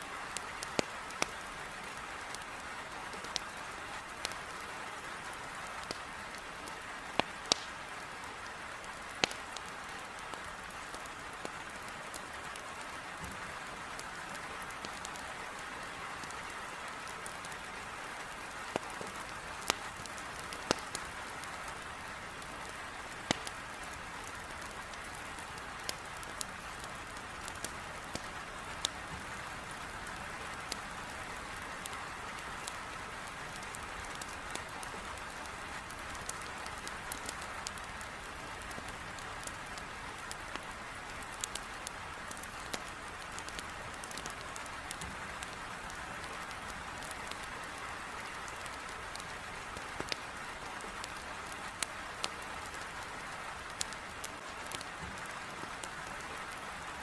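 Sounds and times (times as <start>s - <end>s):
heavy rain on a window: 0.0s - 57.0s
wood fire crackling: 0.1s - 57.0s.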